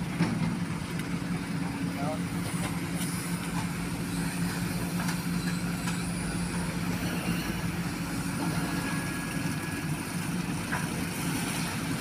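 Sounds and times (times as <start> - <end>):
heavy diesel engines running: 0.0 - 12.0.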